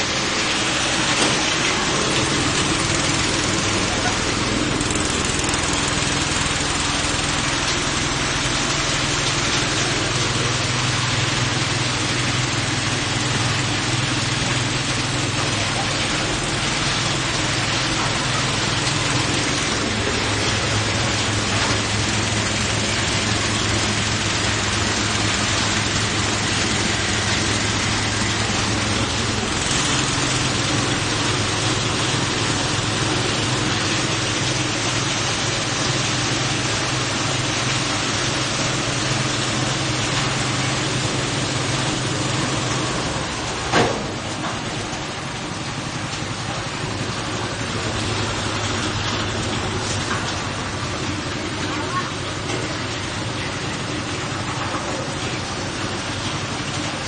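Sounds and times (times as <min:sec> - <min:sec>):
machine running with low drone: 0:00.0 - 0:57.0.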